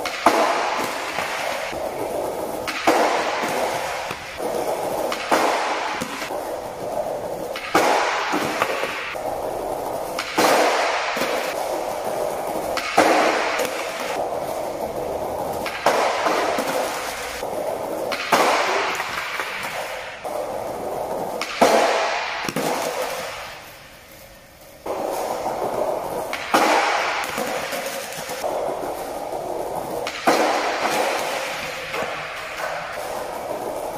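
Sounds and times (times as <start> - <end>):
skateboard sharp cracks: 0.0 - 33.9
skateboard wheels rolling on tiles: 0.0 - 33.9.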